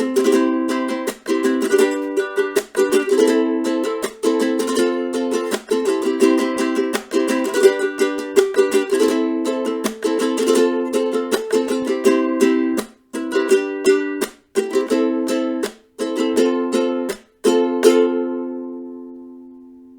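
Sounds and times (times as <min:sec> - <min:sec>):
ukulele strumming chords: 0:00.0 - 0:19.9.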